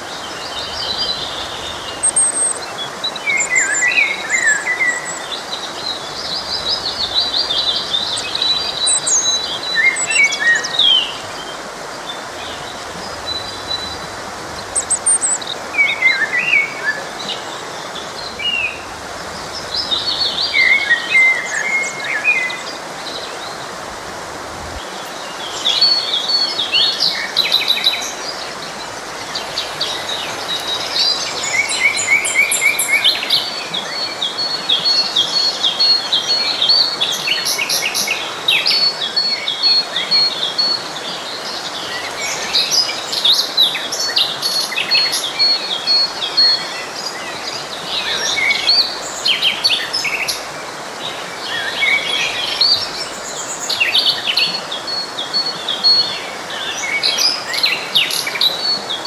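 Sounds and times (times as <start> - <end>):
forest stream flowing: 0.0 - 59.0
songbirds chirping and trilling: 0.0 - 59.0.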